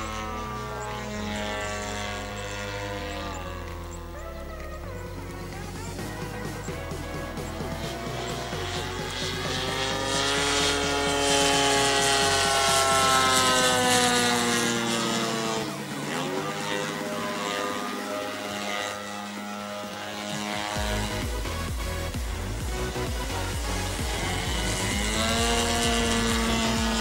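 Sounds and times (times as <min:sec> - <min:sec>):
model plane engine and propeller: 0:00.0 - 0:27.0.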